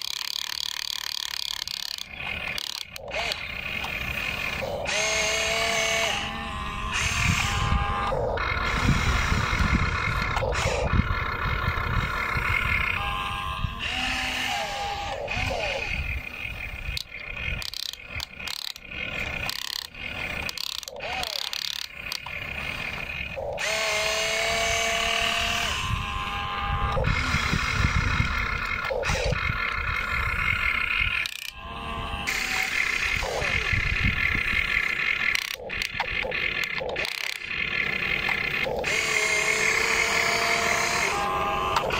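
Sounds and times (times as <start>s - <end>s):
toy excavator motors whining: 0.0s - 41.9s.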